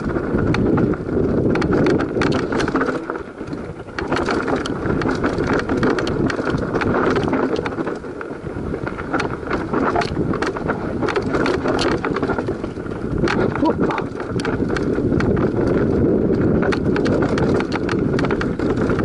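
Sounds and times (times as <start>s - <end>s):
bike rattling and knocking: 0.0s - 19.0s
wind rush on microphone: 0.0s - 19.0s
tyres crunching over stones: 1.4s - 19.0s.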